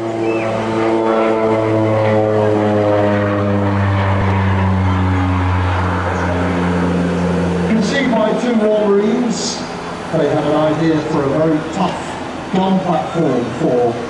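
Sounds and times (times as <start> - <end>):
turboprop plane engines in flight: 0.0 - 14.0.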